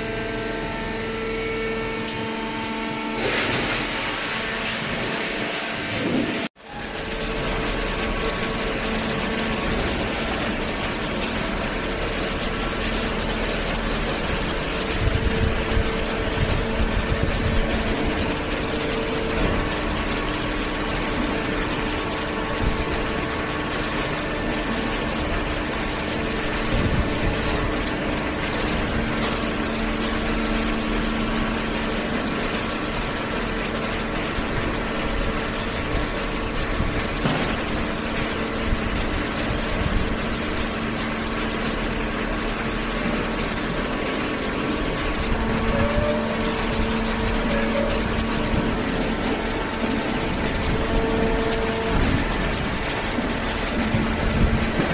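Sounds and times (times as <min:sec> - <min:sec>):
hydraulic baler humming: 0:00.0 - 0:54.9.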